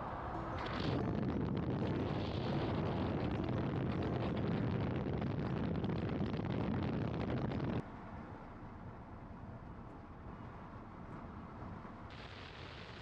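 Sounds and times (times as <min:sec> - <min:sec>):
road hum inside cab: 0:00.0 - 0:12.2
truck wind and road noise: 0:00.0 - 0:13.0.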